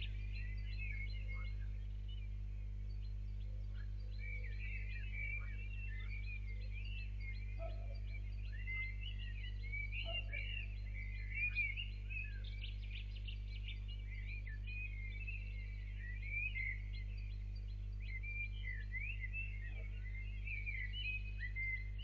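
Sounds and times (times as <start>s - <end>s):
birds singing: 0.0s - 22.0s
steady low hum: 0.0s - 22.0s.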